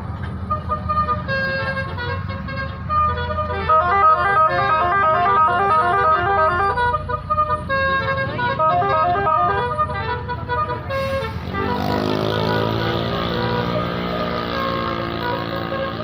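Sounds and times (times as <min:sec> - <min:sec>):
bus engine running: 0:00.0 - 0:16.0
musical air horn melody: 0:00.5 - 0:16.0.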